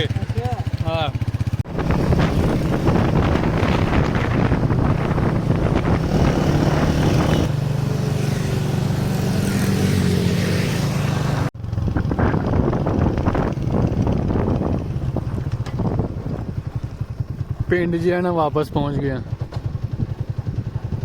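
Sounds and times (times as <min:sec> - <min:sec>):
road and wind noise: 0:00.0 - 0:21.0
vehicle engine hum: 0:00.4 - 0:17.8.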